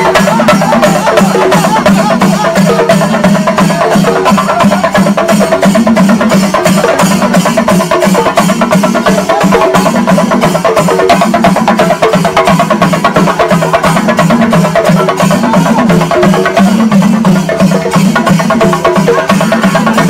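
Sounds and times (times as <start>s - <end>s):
drums and cymbals fast beat: 0.0s - 20.0s.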